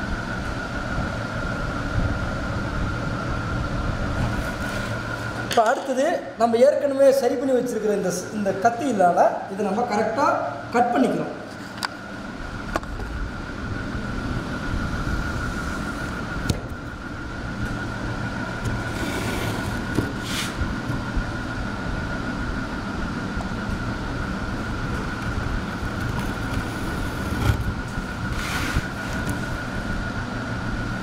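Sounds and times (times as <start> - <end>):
low mechanical rumble with whine: 0.0 - 31.0.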